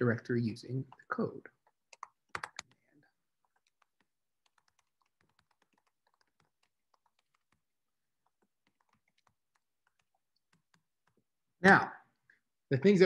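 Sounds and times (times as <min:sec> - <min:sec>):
faint keyboard typing: 0:00.7 - 0:11.4.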